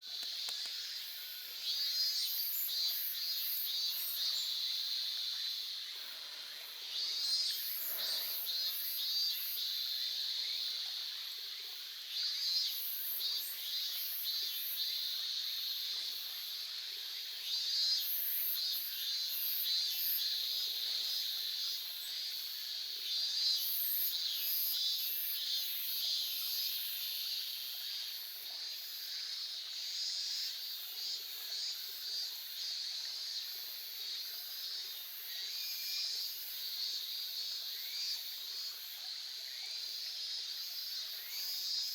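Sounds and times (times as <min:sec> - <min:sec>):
faint babbling stream: 0:00.0 - 0:41.9.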